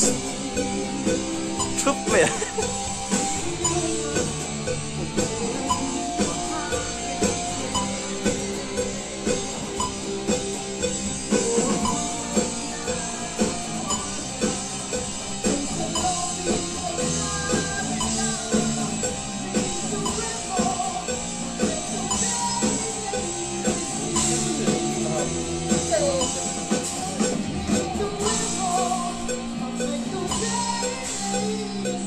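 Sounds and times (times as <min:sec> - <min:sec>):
guitar: 0:00.0 - 0:32.0
steady drum beat: 0:00.0 - 0:32.0.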